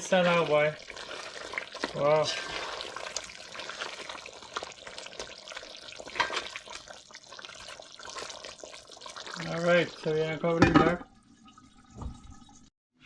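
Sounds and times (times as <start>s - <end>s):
curry bubbling in a pot: 0.0s - 12.1s.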